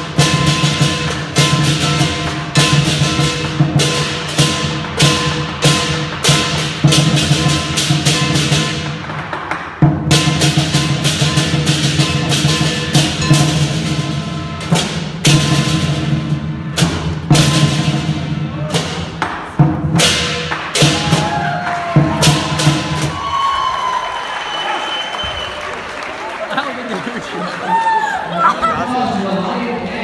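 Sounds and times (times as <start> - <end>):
drum beating: 0.0 - 24.0.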